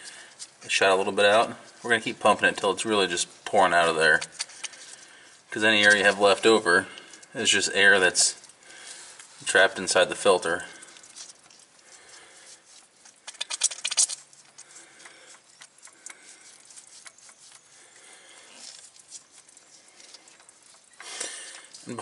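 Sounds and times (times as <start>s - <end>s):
air and fuel spitting and crackling: 0.0s - 22.0s.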